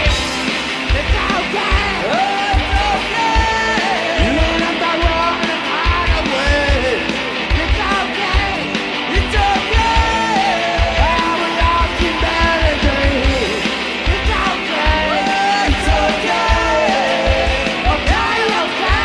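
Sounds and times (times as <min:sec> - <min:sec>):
drums with kick-drum beat: 0:00.0 - 0:19.0
guitars: 0:00.0 - 0:19.0
man singing: 0:00.8 - 0:19.0.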